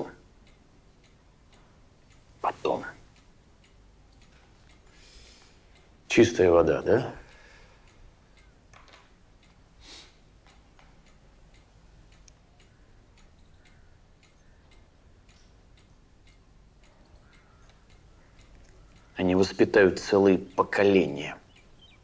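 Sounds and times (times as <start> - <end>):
soft ticks: 0.0 - 22.0.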